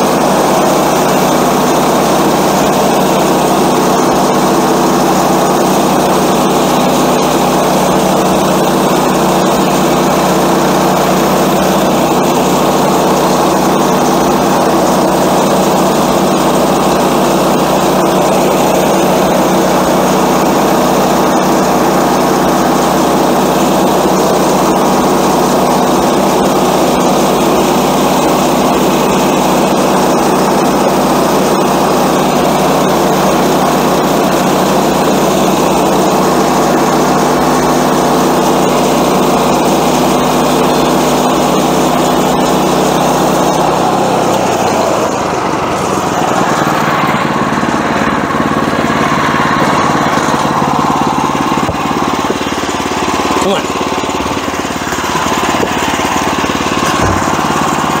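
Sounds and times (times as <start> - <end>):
bandsaw mill cutting log: 0.0 - 58.0.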